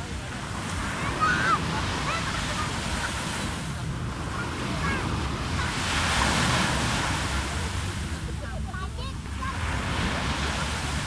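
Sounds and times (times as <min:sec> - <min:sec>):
ocean surf breaking: 0:00.0 - 0:11.0
wind rumble on microphone: 0:00.0 - 0:11.0.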